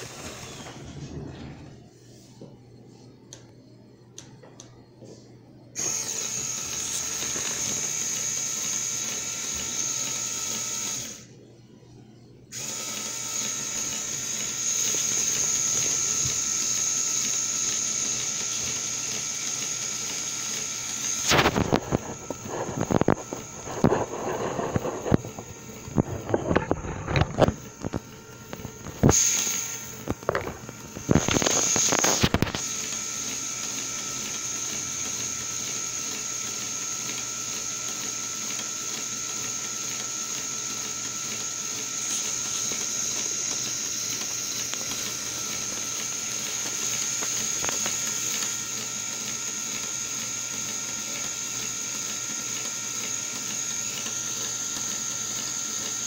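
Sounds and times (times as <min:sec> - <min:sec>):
plastic gears whirring: 0:00.0 - 0:01.7, 0:05.8 - 0:11.3, 0:12.5 - 0:56.0
electric motor whining: 0:00.0 - 0:01.9, 0:05.8 - 0:11.3, 0:12.5 - 0:56.0.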